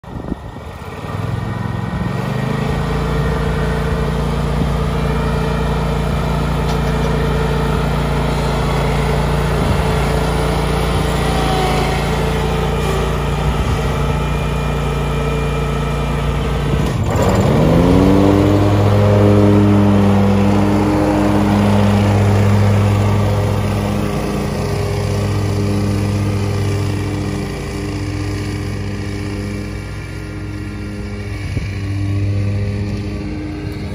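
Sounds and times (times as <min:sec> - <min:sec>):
mower engine running: 0:00.0 - 0:33.9.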